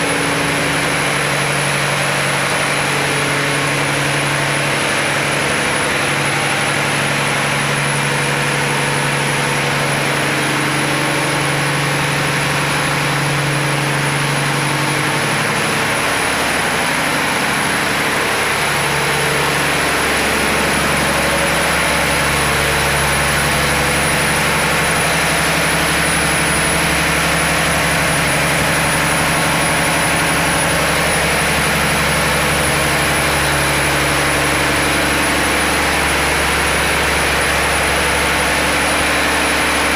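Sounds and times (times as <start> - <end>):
diesel engine drone: 0.0 - 39.9
high engine whine: 0.0 - 39.9.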